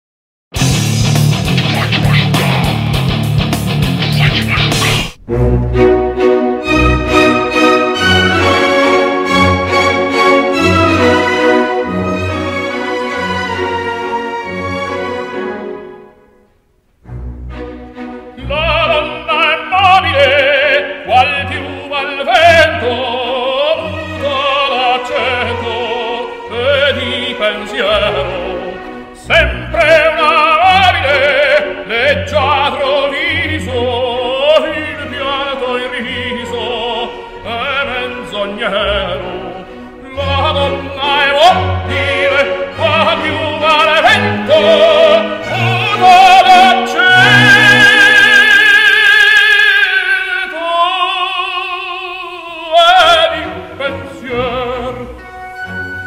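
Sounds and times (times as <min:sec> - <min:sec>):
operatic singing: 0:00.6 - 0:16.1, 0:17.5 - 0:56.0
orchestral accompaniment: 0:00.6 - 0:56.0.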